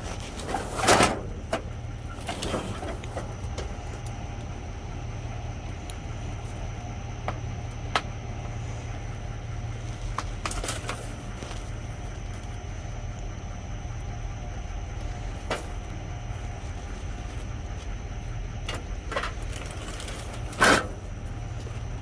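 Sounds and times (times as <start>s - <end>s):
rustling in a dumpster: 0.0s - 4.9s, 7.8s - 13.1s, 13.7s - 22.0s
steady low hum: 0.0s - 22.0s.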